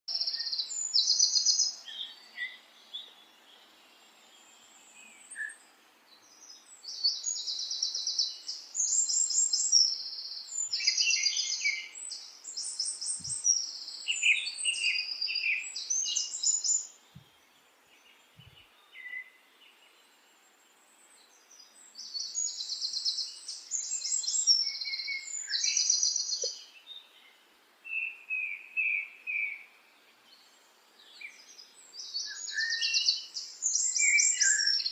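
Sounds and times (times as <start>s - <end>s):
songbird trilling and chirping: 0.1s - 20.0s, 21.1s - 29.7s, 30.3s - 34.9s.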